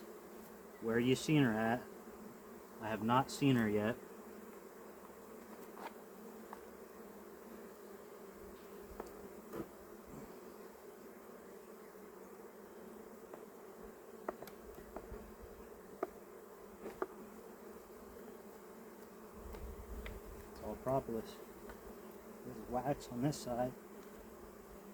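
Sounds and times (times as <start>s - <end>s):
honeybees buzzing: 0.0s - 24.9s.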